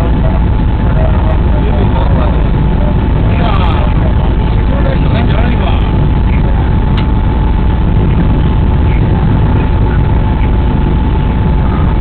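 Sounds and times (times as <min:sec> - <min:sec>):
train cab low rumble: 0:00.0 - 0:12.0.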